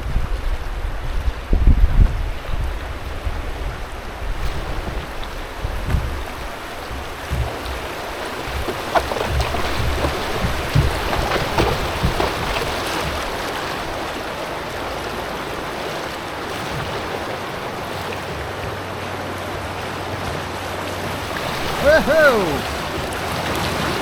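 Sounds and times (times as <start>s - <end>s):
river current rushing: 0.0s - 24.0s
sharp splashes: 3.6s - 24.0s.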